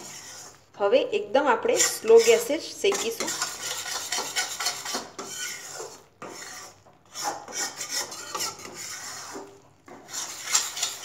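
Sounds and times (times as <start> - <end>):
metal spatula scraping a metal pan: 0.0 - 0.7, 1.6 - 11.0.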